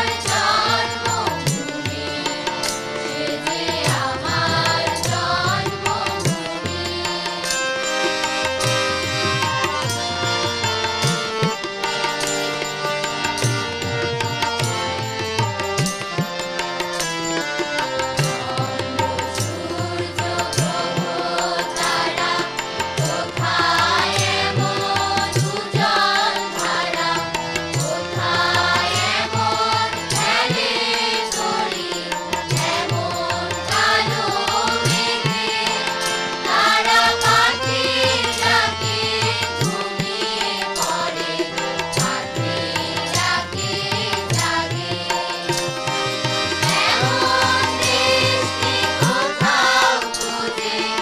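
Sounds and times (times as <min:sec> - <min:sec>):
children's choir singing: 0:00.0 - 0:12.1, 0:17.1 - 0:51.0
harmonium: 0:00.0 - 0:51.0.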